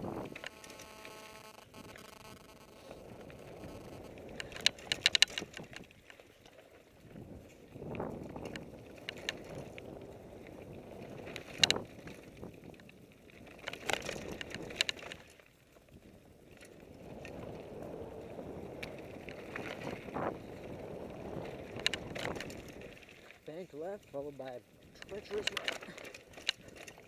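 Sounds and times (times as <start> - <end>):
bike rattling over bumps: 0.0 - 27.0.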